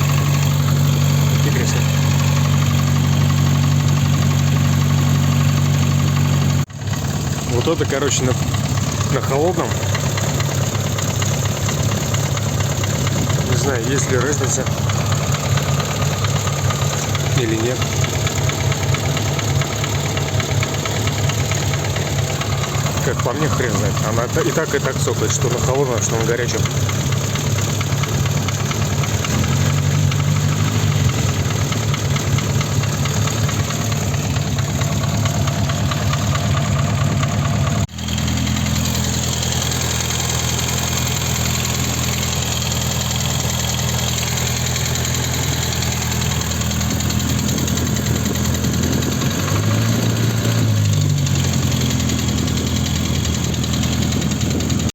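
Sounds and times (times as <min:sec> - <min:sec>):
car engine idling with ticking: 0:00.0 - 0:54.9.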